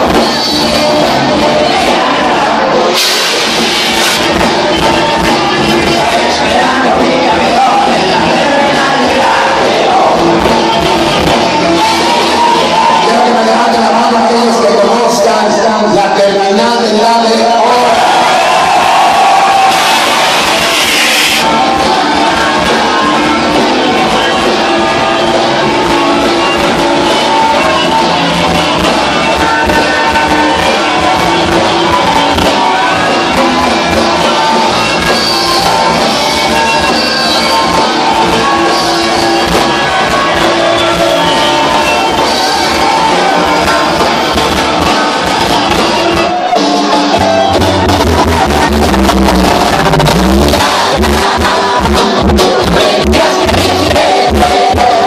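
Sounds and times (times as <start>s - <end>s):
loud music over sound system: 0.0s - 55.0s.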